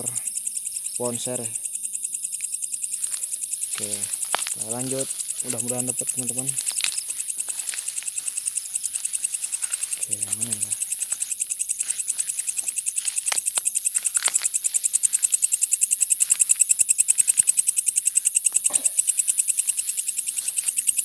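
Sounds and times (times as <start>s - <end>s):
crickets trilling: 0.0s - 21.0s
rustling in grass: 2.8s - 21.0s.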